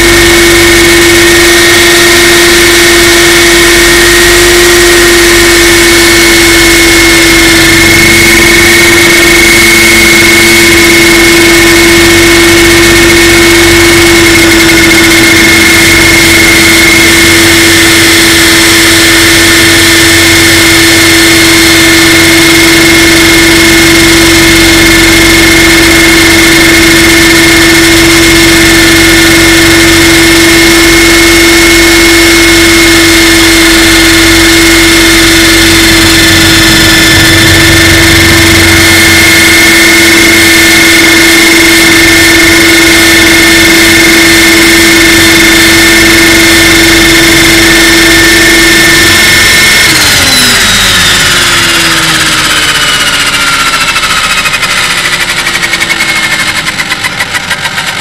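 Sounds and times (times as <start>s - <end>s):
helicopter rotor noise: 0.0s - 58.0s
rc helicopter motor whining: 0.0s - 58.0s.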